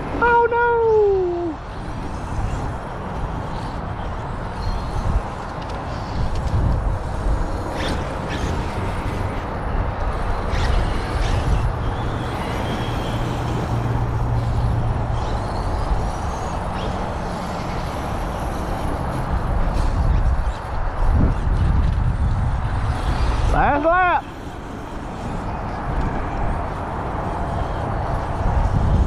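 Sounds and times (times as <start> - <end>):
high electric motor whine: 0.0 - 29.0.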